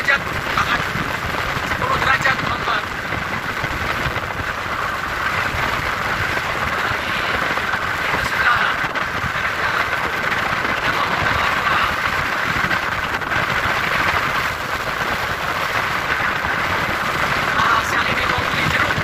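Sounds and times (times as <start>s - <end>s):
vehicle engine running: 0.0s - 19.0s
wind noise: 0.0s - 19.0s.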